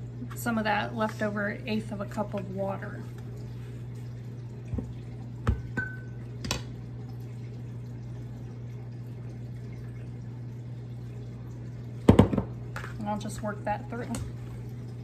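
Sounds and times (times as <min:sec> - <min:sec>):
water pouring into a bowl: 0:00.0 - 0:15.0.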